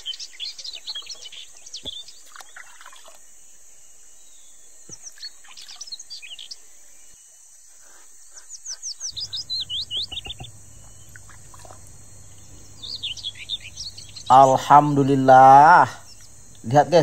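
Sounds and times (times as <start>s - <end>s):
wild birds chirping: 0.0s - 17.0s
high-pitched insect drone: 2.8s - 17.0s.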